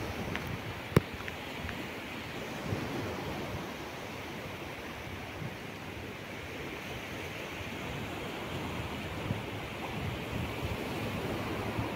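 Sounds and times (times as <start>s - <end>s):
surf washing over beach: 0.0s - 11.9s.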